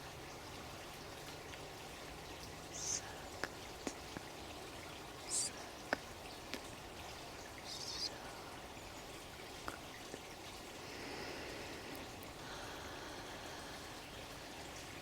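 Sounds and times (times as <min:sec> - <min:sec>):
sharp drip-like ticks: 0:00.0 - 0:15.0
water trickling: 0:00.0 - 0:15.0.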